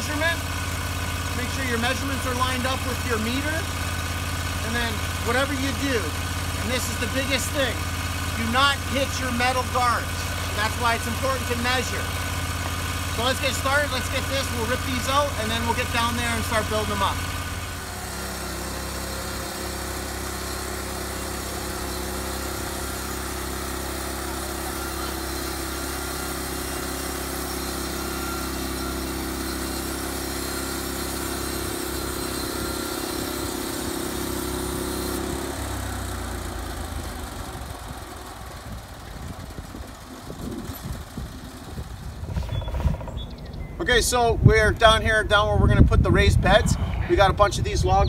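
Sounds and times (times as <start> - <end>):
bandsaw mill engine running: 0.0 - 43.2.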